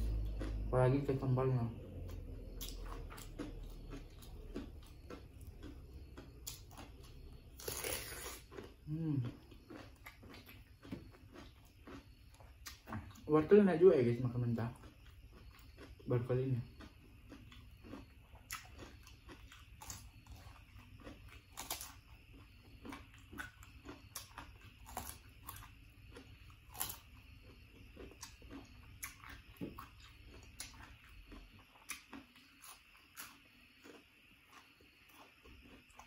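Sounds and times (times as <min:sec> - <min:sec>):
carrot crunching while chewed: 0:00.0 - 0:13.3, 0:14.6 - 0:36.0.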